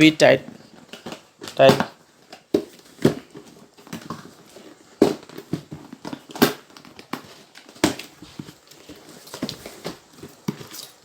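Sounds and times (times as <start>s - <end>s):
cardboard packing rustling: 0.0s - 11.0s.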